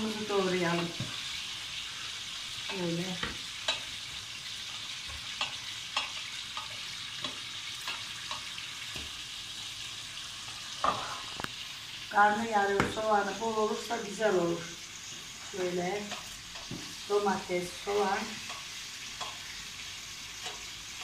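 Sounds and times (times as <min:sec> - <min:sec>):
peppers sizzling in hot oil: 0:00.0 - 0:21.0.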